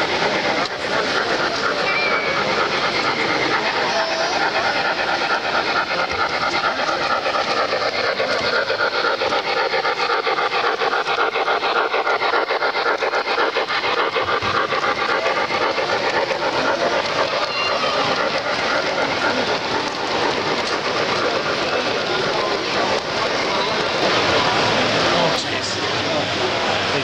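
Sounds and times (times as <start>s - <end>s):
model train wheels clattering: 0.0s - 27.0s.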